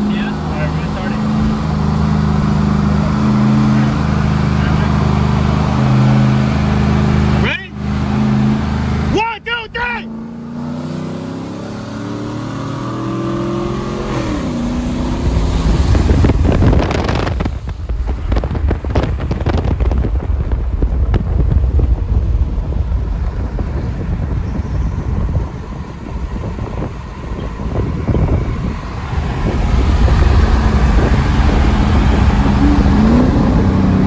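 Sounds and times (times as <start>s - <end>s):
truck engine accelerating: 0.0s - 34.0s
wind and road noise: 0.0s - 34.0s.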